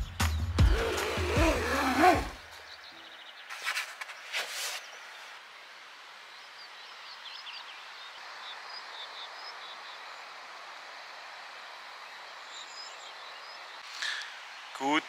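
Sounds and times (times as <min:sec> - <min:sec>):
small birds chirping: 0:00.0 - 0:15.0
steady hiss: 0:02.4 - 0:15.0.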